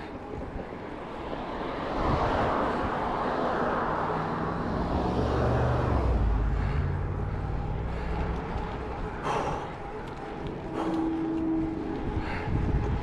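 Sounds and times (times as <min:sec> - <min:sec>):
car tyre noise passing: 0:00.0 - 0:13.0
low engine hum: 0:00.0 - 0:13.0.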